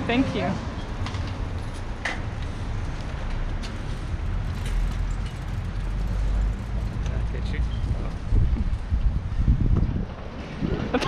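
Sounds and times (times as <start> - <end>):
bicycles rumbling on brick: 0.0 - 11.0.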